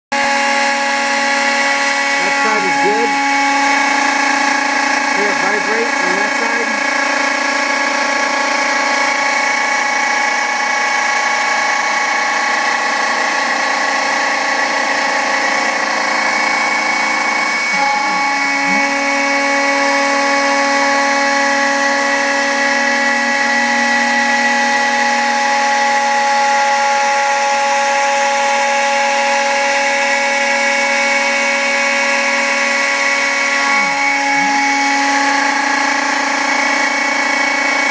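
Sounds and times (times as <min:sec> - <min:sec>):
router milling plastic: 0:00.1 - 0:37.9.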